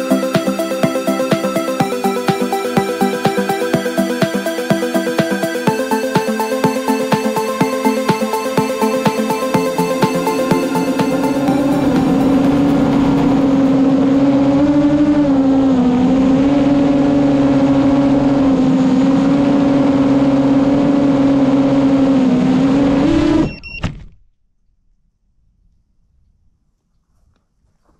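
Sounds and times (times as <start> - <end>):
drone propellers whining: 0.0 - 23.5.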